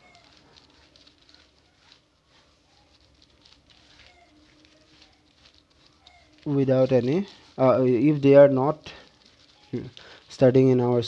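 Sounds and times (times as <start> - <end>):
hand rubbing plastic sheet: 0.0 - 11.0.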